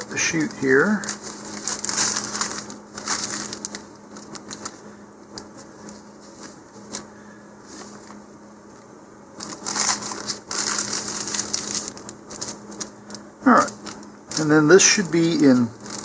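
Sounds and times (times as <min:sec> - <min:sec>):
plastic sheet crinkling: 0:00.0 - 0:08.2, 0:09.4 - 0:16.0.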